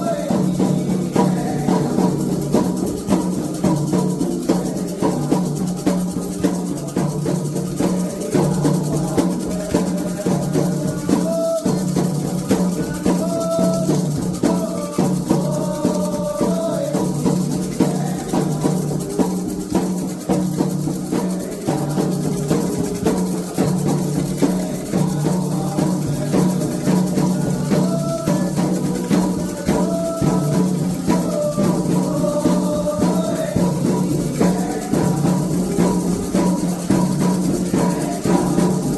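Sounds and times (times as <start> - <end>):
hand drums beating: 0.0 - 38.9
shaker rattling: 0.0 - 38.9.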